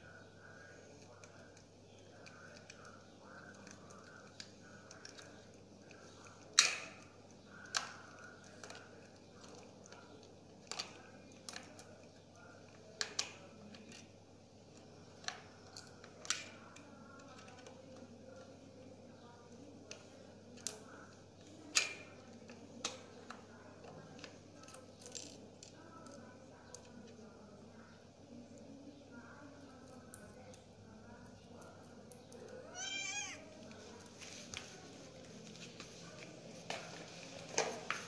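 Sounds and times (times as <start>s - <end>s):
faint background murmur: 0.0s - 38.0s.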